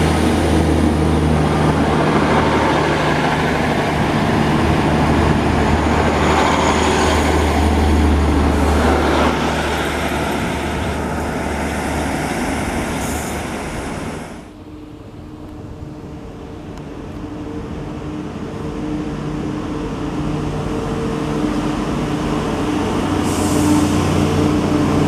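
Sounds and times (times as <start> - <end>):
diesel train engines droning: 0.0 - 25.0
wheels rumbling on rail: 0.0 - 25.0.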